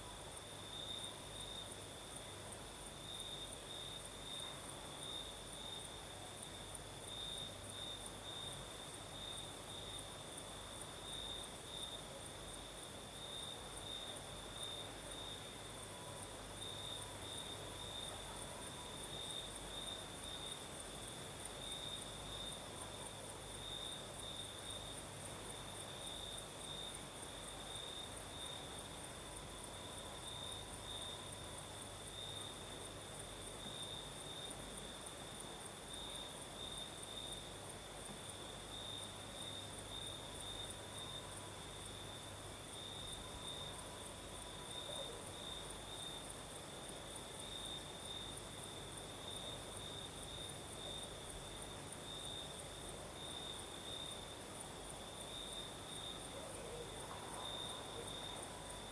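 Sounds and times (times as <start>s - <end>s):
faint breeze: 0.0s - 58.9s
very high insect hiss: 0.0s - 58.9s.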